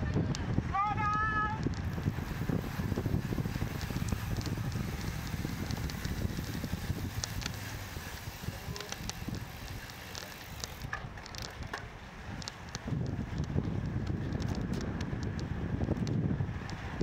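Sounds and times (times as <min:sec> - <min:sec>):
bicycle ticks and clicks: 0:00.0 - 0:17.0
wind rushing over microphone: 0:00.0 - 0:17.0.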